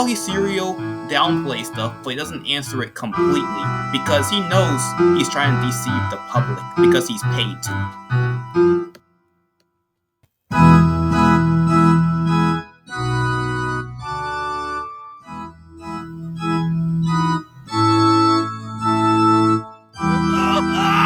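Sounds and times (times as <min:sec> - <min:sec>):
electronic keyboard chords: 0:00.0 - 0:09.0, 0:10.5 - 0:21.0.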